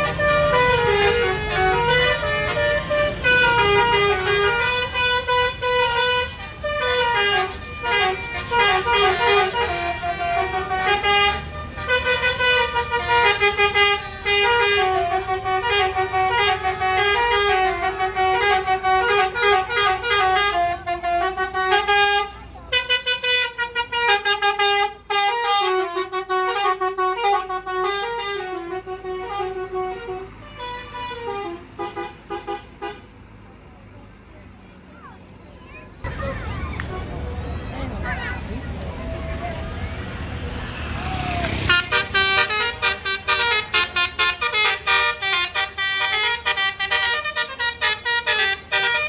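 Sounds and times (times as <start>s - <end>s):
musical air horn playing a tune: 0.0s - 33.1s, 41.5s - 49.0s.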